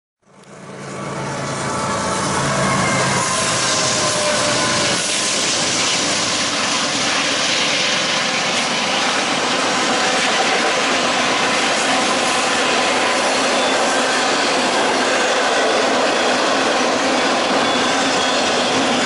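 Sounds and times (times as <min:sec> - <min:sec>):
diesel locomotives droning: 0:00.2 - 0:19.0
steel wheels rushing on rail: 0:00.2 - 0:19.0.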